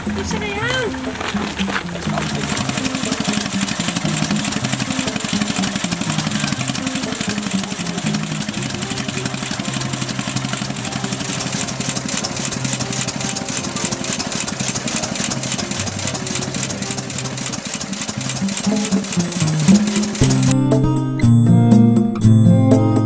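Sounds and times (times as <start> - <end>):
stationary engine running: 0.0 - 20.8
tune of held low notes: 0.0 - 23.0.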